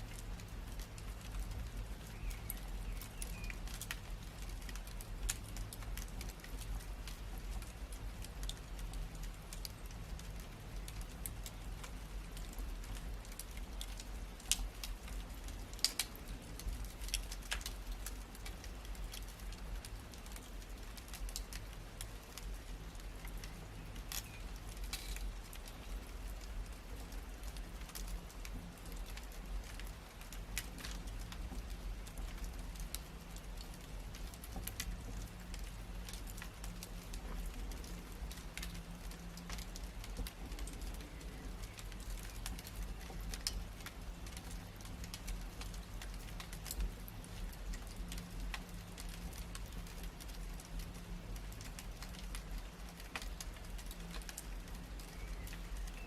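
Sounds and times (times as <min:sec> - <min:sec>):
low steady fire rumble: 0:00.0 - 0:56.0
wood fire pops and snaps: 0:00.0 - 0:56.0.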